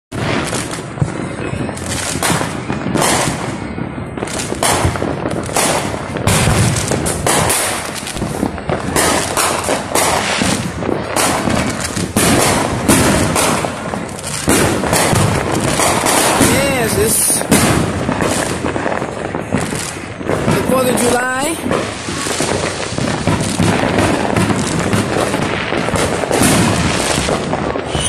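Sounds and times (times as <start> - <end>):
fireworks banging and crackling: 0.1 - 28.0.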